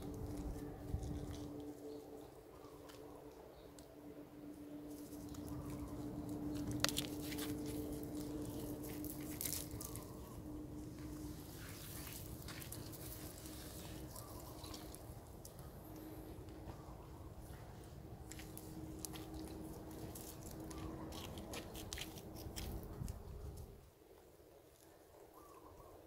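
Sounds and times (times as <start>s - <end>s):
crackles on dry leaves: 0.0s - 23.9s
steady low hum: 0.0s - 24.0s.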